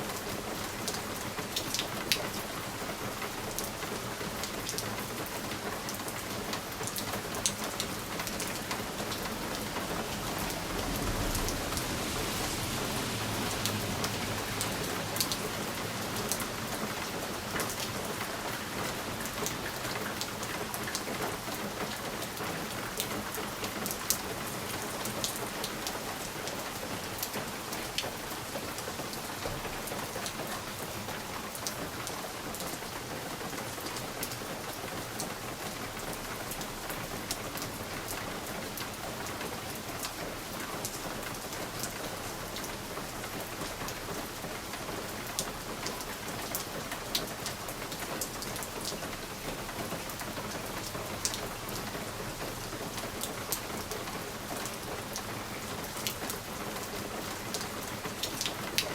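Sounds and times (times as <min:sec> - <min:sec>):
rain on a window pane: 0:00.0 - 0:58.9.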